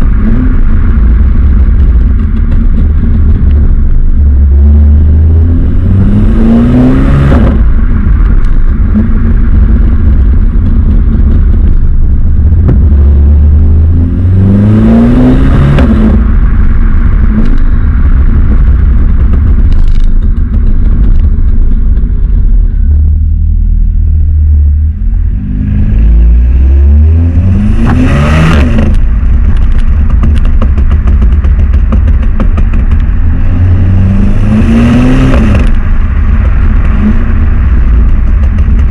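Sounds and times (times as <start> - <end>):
car exhaust accelerating hard: 0.0 - 38.9
exhaust crack at gear change: 0.0 - 38.9.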